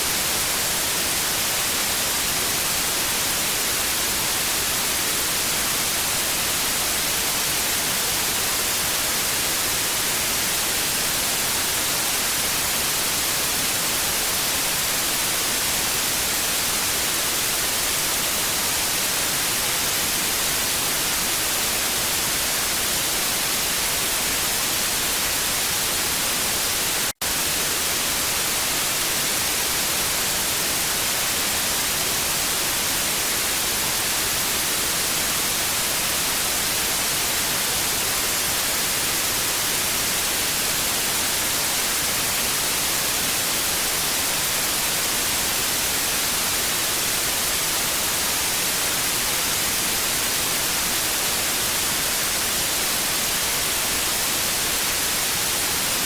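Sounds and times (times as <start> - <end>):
tv static hiss: 0.0 - 56.0.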